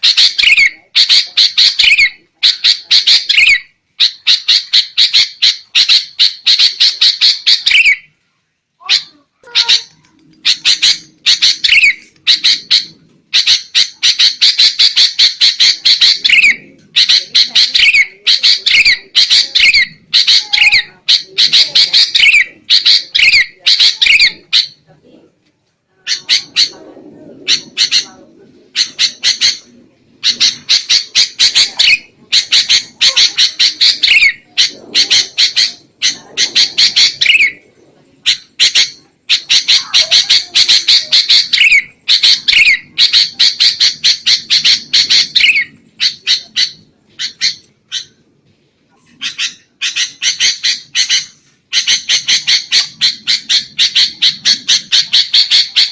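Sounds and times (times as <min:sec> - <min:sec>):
bird harsh chattering calls: 0:00.0 - 0:08.1, 0:08.8 - 0:24.8, 0:26.0 - 0:37.6, 0:38.2 - 0:48.2, 0:49.1 - 0:55.9.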